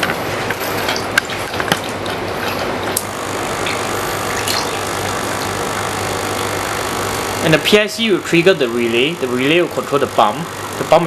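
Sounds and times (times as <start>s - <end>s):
coffee maker humming and hissing: 0.0s - 11.0s.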